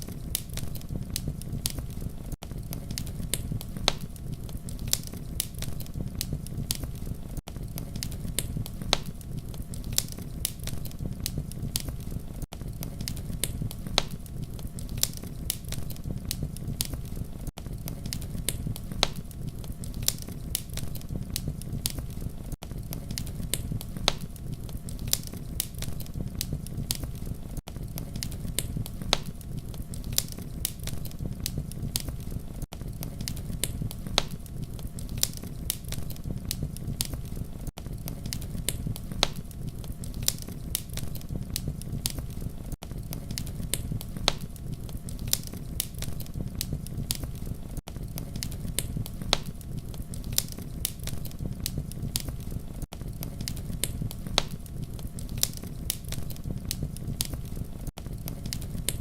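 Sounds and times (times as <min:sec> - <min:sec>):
campfire crackling: 0:00.0 - 0:59.0
low rumble of flames: 0:00.0 - 0:59.0.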